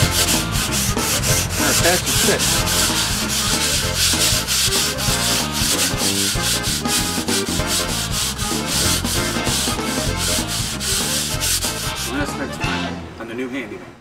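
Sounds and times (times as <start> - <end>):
sanding block scraping drywall: 0.0 - 12.4.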